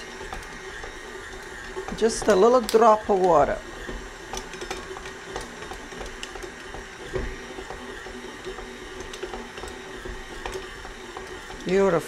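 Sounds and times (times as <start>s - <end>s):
stand mixer motor whir: 0.0s - 12.0s.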